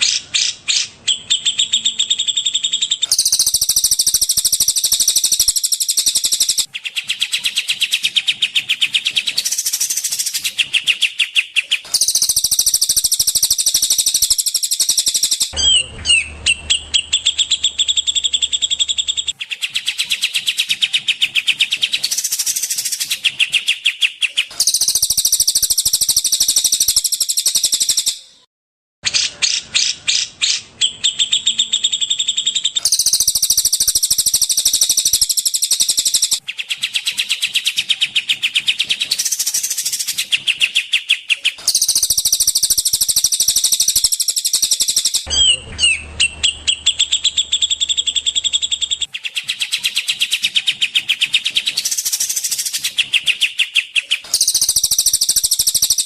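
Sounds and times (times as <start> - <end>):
bird trills and chattering calls: 0.0 - 28.3, 29.0 - 56.0.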